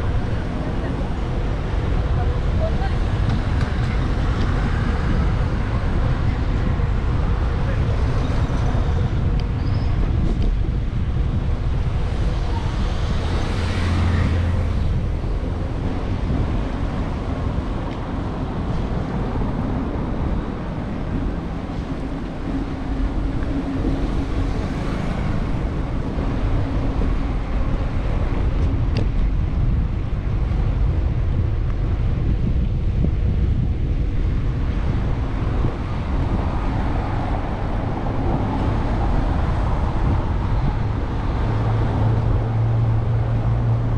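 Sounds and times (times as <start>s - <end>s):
cars passing: 0.0s - 43.9s
wind rumbling on microphone: 0.0s - 43.9s.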